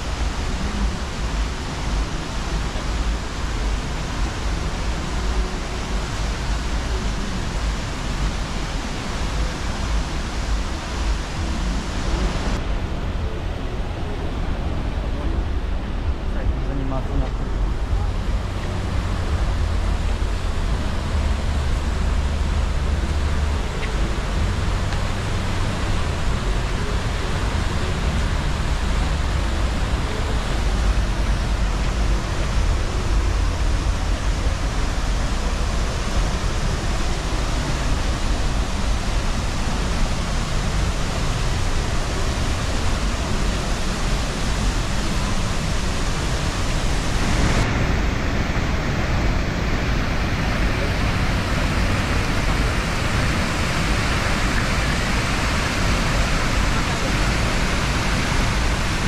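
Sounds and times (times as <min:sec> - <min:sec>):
waterfall rushing: 0:00.0 - 0:59.0
deep rumble: 0:09.3 - 0:59.0.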